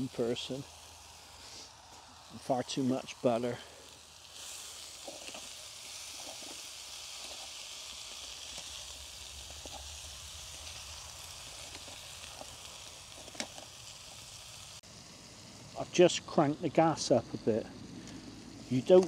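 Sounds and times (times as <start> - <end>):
food sizzling in a pan: 0.0 - 17.6.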